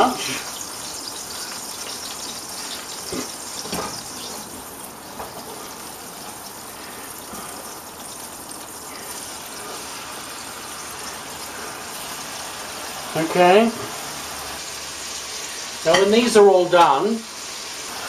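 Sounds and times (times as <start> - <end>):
oil sizzling in a frying pan: 0.0 - 18.0.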